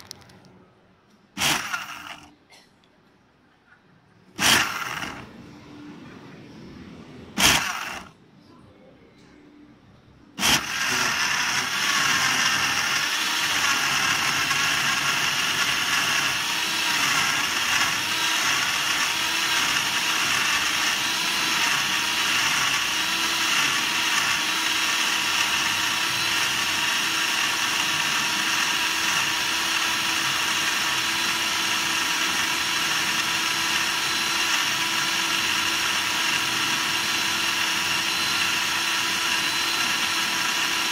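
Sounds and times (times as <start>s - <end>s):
blender whining: 1.4s - 2.3s, 4.4s - 5.4s, 7.4s - 8.1s, 10.4s - 40.9s.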